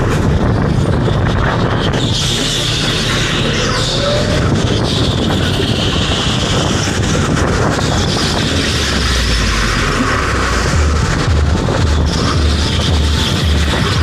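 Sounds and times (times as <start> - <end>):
go-kart motor and wind noise: 0.0 - 14.0
music with pulsing bass: 0.0 - 14.0.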